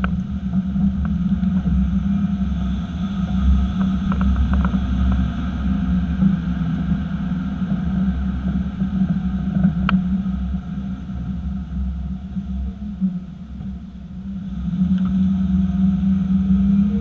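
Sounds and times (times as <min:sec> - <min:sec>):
pickup truck low rumble: 0:00.0 - 0:17.0.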